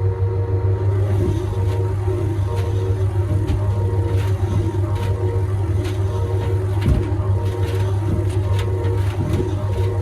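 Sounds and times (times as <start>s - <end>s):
washing machine motor hum: 0.0s - 10.0s.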